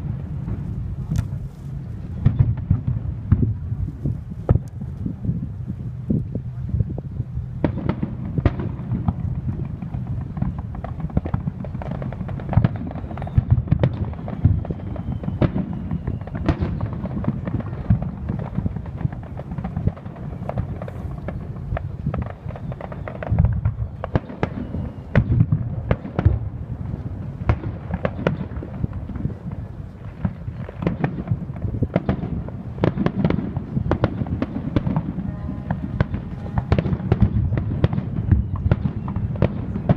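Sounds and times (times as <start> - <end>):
fireworks crackling: 0.0 - 39.9
fireworks shells booming: 0.0 - 39.9.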